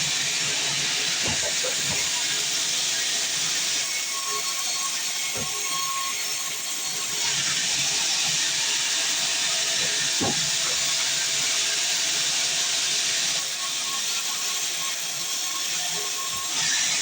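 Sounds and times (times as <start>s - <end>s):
band saw cutting log: 0.0s - 17.0s.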